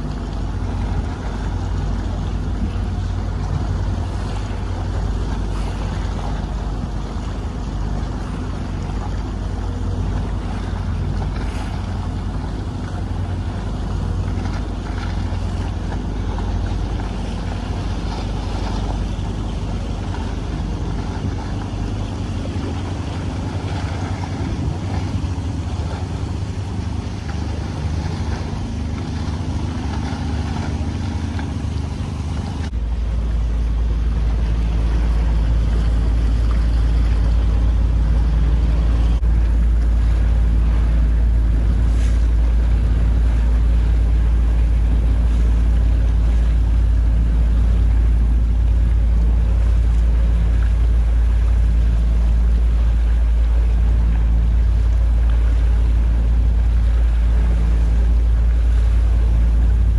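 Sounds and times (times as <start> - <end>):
motorboat engine running: 0.0 - 59.9
water noise: 0.0 - 59.9
wind on microphone: 0.0 - 59.9.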